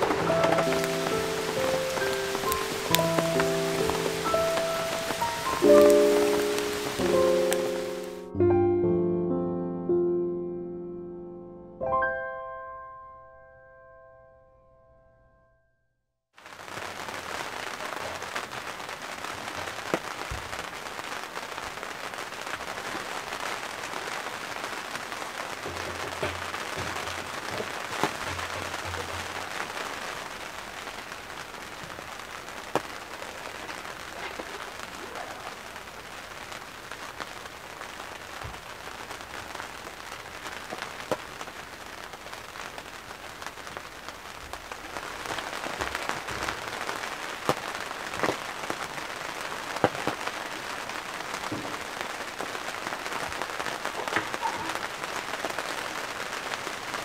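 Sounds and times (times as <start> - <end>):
rain falling on a tent: 0.0 - 8.3, 16.4 - 57.0.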